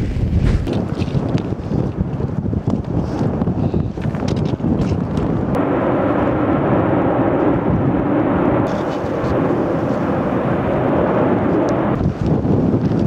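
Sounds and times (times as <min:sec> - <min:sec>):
lava vent rushing: 0:00.0 - 0:13.0.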